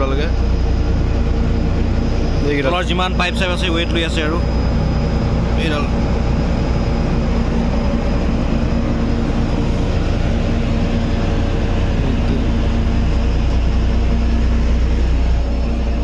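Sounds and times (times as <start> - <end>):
drilling rig engines droning: 0.0 - 16.0.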